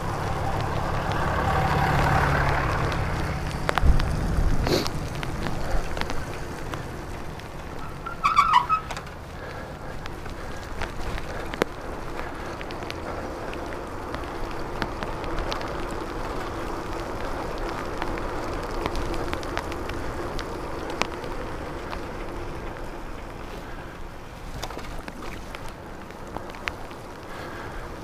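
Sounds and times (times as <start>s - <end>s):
bicycle tyres hissing on wet road: 0.0s - 28.0s
raindrops clicking on camera: 0.0s - 28.0s
wind rumble on microphone: 0.0s - 28.0s.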